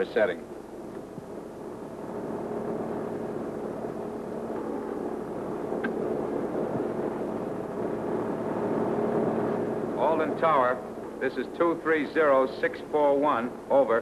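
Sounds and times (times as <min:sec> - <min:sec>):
radial aircraft engines droning: 0:00.0 - 0:14.0.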